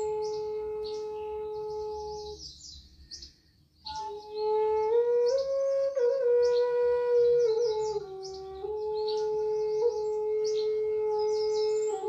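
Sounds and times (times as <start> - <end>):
flute playing long held notes: 0.0 - 2.4, 3.9 - 12.0.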